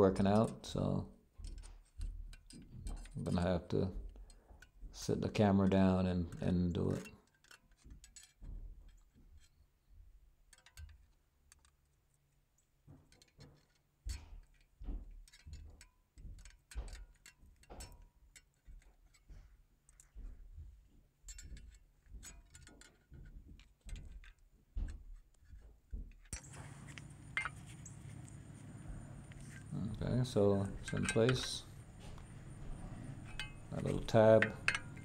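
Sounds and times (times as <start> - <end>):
metal clicks and scrapes: 1.4 - 4.8, 6.2 - 9.6, 10.4 - 20.4, 21.3 - 35.0.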